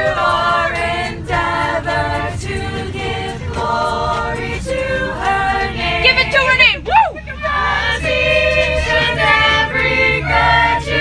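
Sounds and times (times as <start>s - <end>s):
choir singing a cappella: 0.0s - 6.6s, 7.2s - 11.0s.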